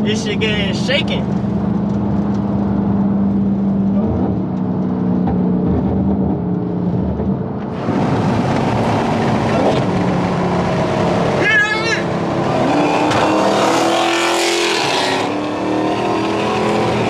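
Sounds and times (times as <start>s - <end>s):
car engine drone: 0.0s - 17.0s
road and tyre noise: 0.0s - 17.0s.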